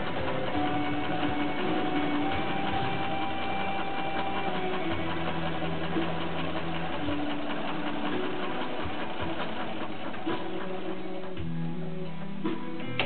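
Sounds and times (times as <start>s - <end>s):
sewing machine running: 0.0s - 13.0s.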